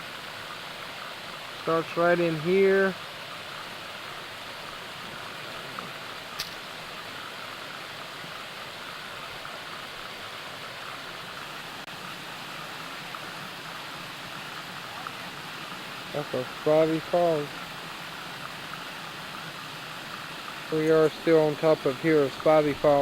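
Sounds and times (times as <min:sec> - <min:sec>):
water pouring over waterfall: 0:00.0 - 0:23.0.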